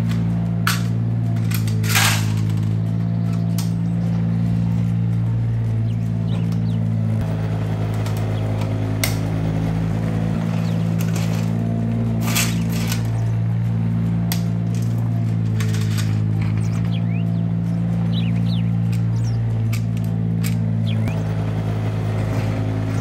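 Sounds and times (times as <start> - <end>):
low engine-like drone: 0.0 - 23.0.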